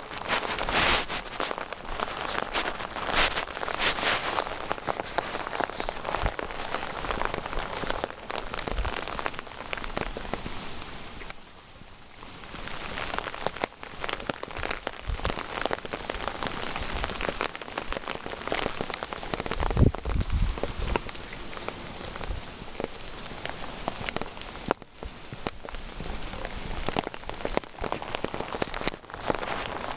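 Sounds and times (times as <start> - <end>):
rain with sharp drop hits: 0.0 - 29.9.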